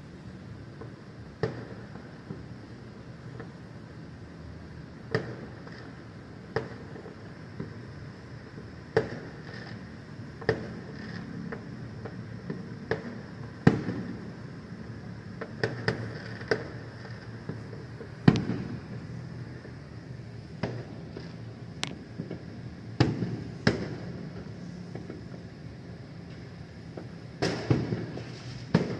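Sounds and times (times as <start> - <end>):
distant fireworks bangs: 0.8 - 2.6, 5.0 - 25.5, 26.3 - 28.9.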